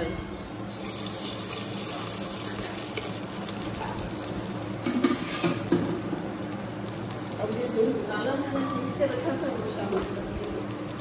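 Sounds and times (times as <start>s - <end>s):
hot oil hissing and crackling: 0.7s - 11.0s.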